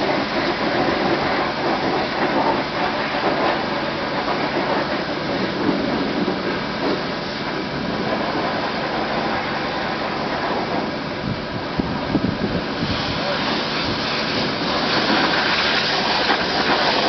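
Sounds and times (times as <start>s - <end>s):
car wash water spray and brushes: 0.0s - 17.0s.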